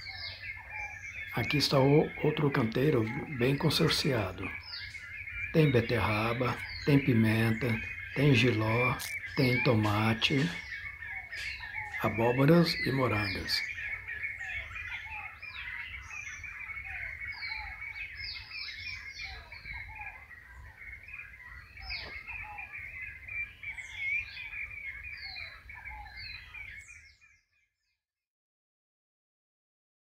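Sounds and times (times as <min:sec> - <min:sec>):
birds chirping and calling: 0:00.0 - 0:27.9.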